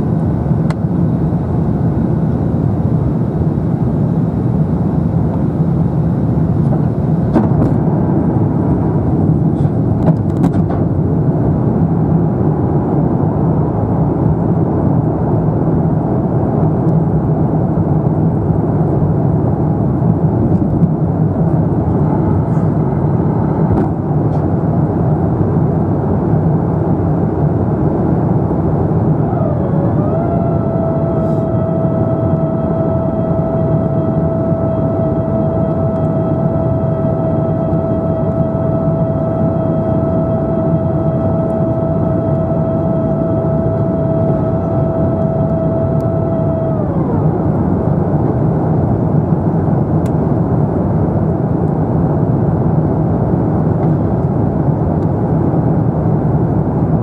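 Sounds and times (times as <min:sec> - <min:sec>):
aircraft cabin engine noise: 0:00.0 - 0:57.0
steady whining tone: 0:00.0 - 0:57.0.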